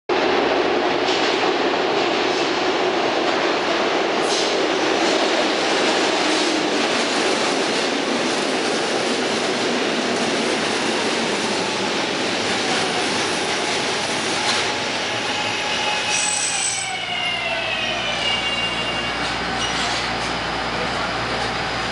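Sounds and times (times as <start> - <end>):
subway train rail noise: 0.1 - 21.9.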